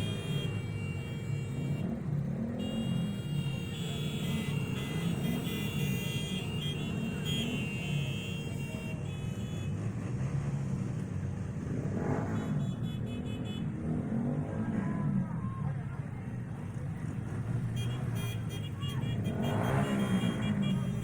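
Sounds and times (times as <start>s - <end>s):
car and motorcycle engines running: 0.0s - 21.0s.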